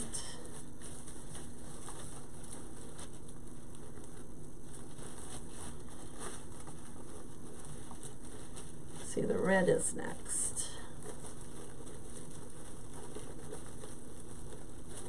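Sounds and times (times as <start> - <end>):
ribbon rustling and crinkling: 0.0 - 15.0.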